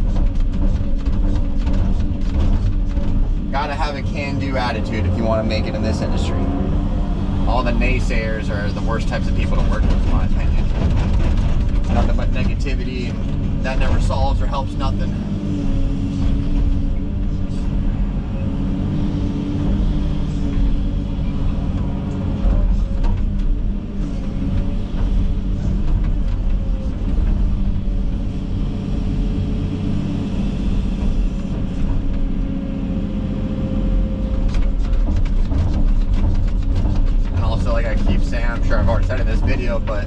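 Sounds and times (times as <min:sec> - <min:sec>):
excavator engine and hydraulics: 0:00.0 - 0:40.0.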